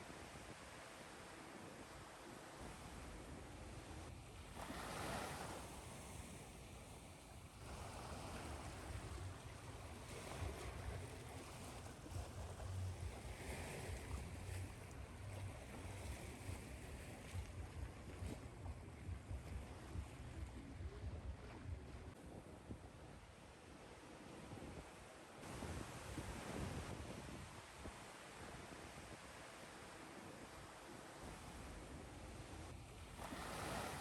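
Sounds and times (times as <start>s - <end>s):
ocean waves washing ashore: 0.0s - 34.0s
wind rumble on microphone: 0.0s - 34.0s.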